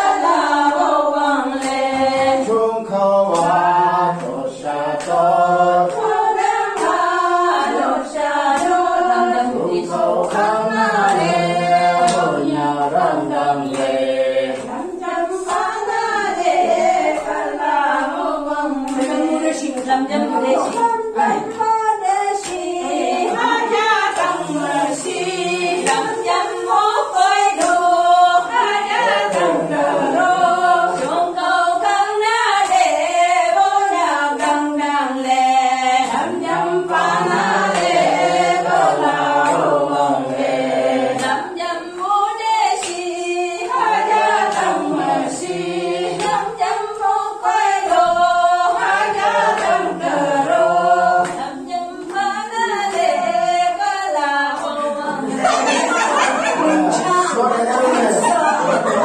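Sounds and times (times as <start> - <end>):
group singing in chorus: 0.0 - 59.0.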